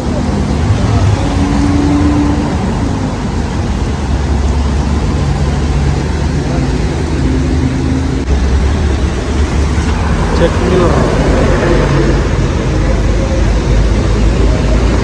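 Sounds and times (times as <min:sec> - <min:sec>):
held engine tones: 0:00.0 - 0:15.0
passing vehicles: 0:00.0 - 0:15.0.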